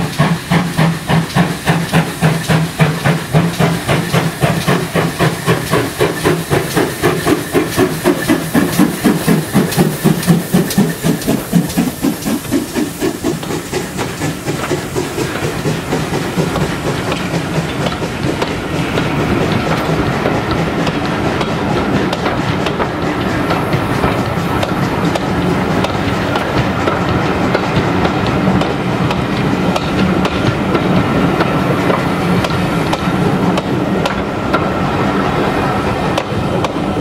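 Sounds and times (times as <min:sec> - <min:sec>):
carriage wheels clickety-clack: 0:00.0 - 0:37.0
steam locomotive chuffing: 0:00.0 - 0:37.0.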